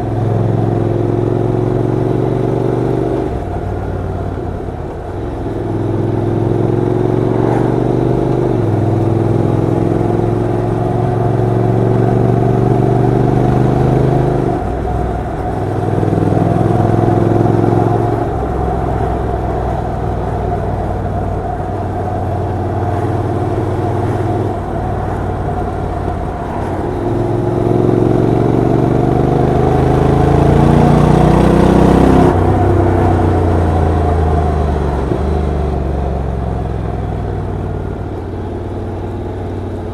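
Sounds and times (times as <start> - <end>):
motorcycle engine revving and shifting: 0.0 - 39.9.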